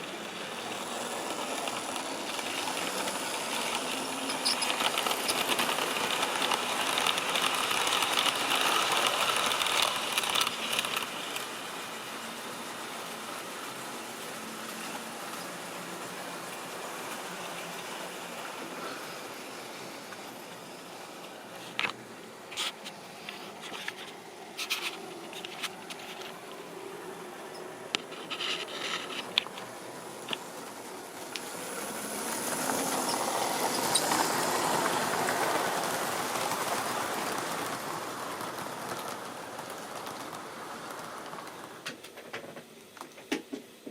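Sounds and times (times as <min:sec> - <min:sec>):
model train rolling on track: 0:00.0 - 0:43.9.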